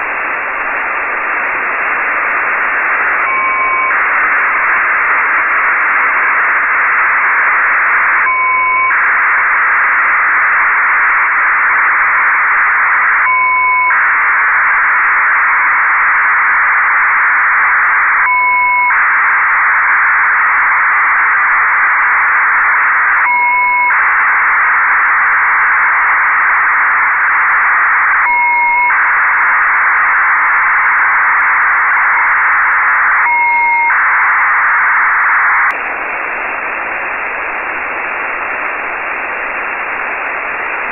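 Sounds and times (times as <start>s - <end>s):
rushing radio data signal: 0.0s - 40.9s.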